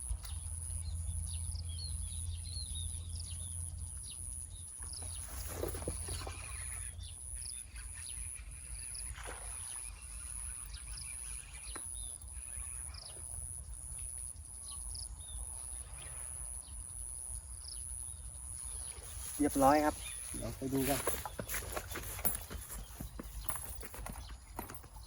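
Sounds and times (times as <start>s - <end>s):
insects pulsing drone: 0.0s - 25.0s.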